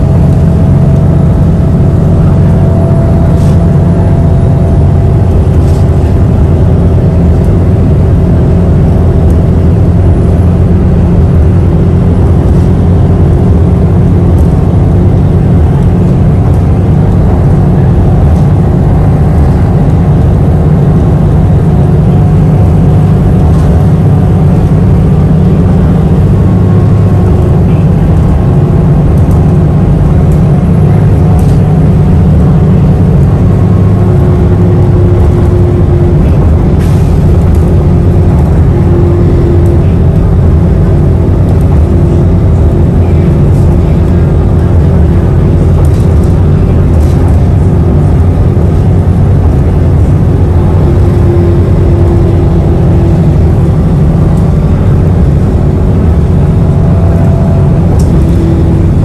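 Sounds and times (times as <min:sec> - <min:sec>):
bus engine and tyre rumble: 0:00.0 - 0:59.0.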